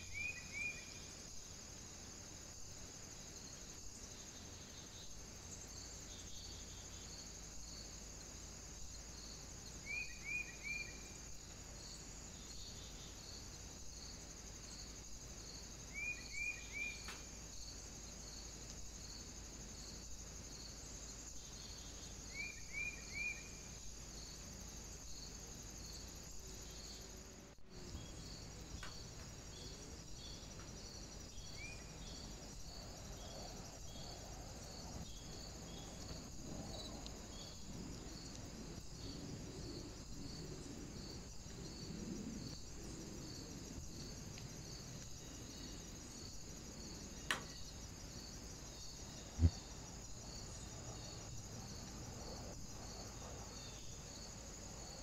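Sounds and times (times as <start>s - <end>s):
insect chirring: 0.0s - 55.0s.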